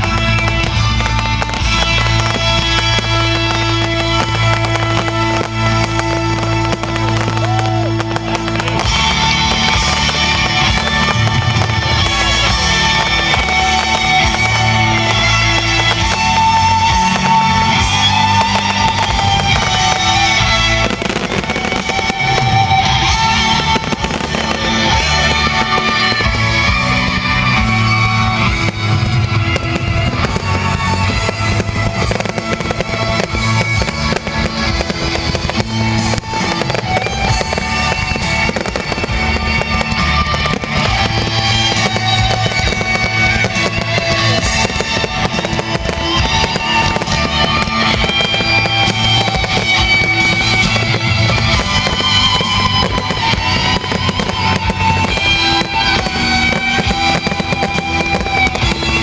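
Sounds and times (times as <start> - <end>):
fireworks bangs and crackles: 0.0 - 59.0
music playing: 0.0 - 59.0.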